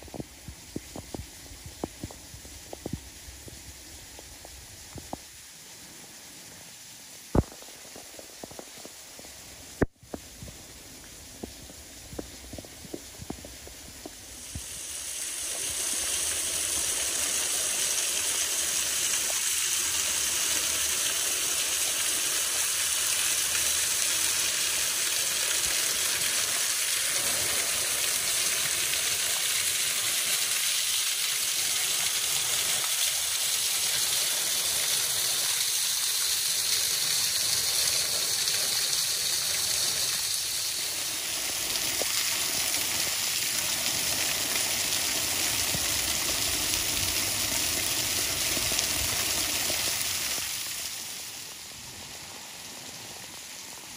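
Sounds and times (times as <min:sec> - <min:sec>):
waterfall splashing onto stones: 0:00.0 - 0:06.0, 0:06.6 - 0:53.9
rain: 0:00.0 - 0:53.9.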